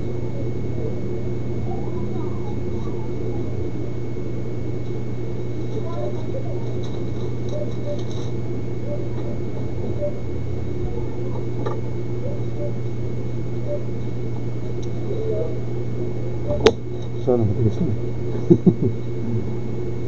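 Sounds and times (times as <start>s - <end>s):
faint high tones: 0.0s - 16.7s
low electrical hum: 0.0s - 20.0s.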